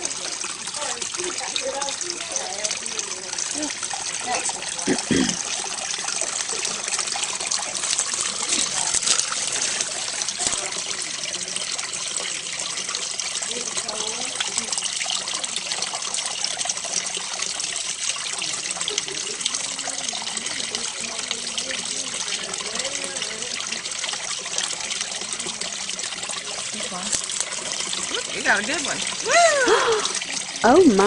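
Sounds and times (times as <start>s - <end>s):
water fountain splashing: 0.0s - 31.0s.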